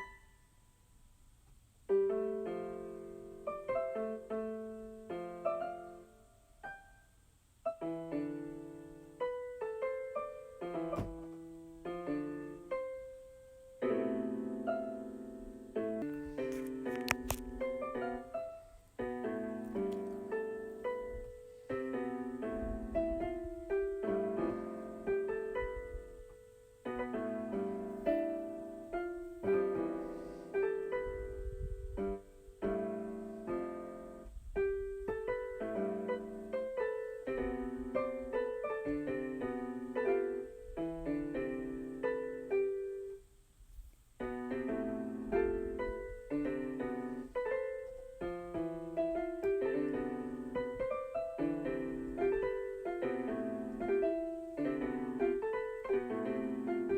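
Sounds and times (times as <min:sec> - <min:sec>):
piano keyboard music: 0:00.0 - 0:01.0, 0:01.8 - 0:43.4, 0:44.2 - 0:56.9.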